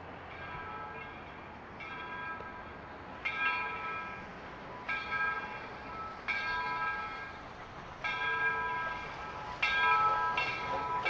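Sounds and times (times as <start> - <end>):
steam locomotive bell ringing: 0.0 - 11.0.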